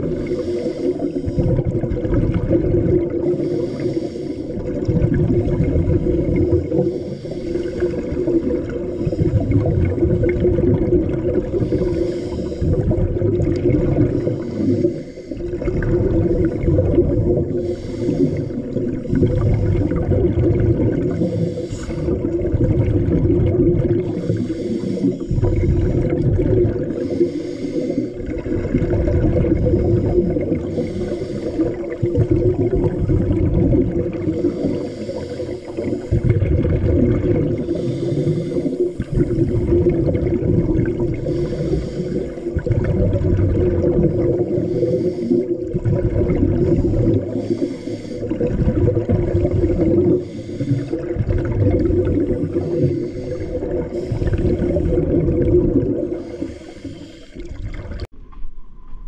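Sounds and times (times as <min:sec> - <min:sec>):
bubbling exhalation underwater: 0:00.0 - 0:03.7, 0:04.6 - 0:07.0, 0:07.6 - 0:27.2, 0:28.2 - 0:56.7, 0:57.3 - 0:58.1
scuba regulator hissing inhalation: 0:00.1 - 0:01.8, 0:03.0 - 0:04.9, 0:05.9 - 0:10.0, 0:11.3 - 0:22.6, 0:23.5 - 0:58.1.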